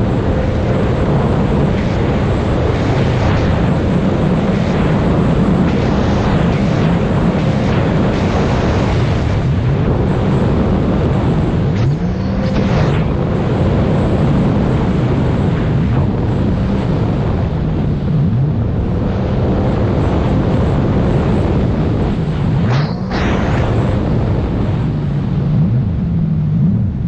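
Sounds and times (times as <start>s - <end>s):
jet ski engine running: 0.0s - 25.6s
wind on microphone: 0.0s - 27.0s.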